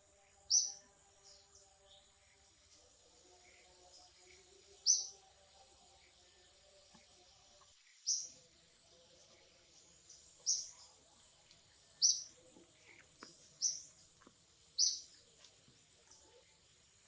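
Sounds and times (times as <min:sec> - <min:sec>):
bird chirping: 0:00.0 - 0:17.0
faint outdoor background noise: 0:00.0 - 0:17.0.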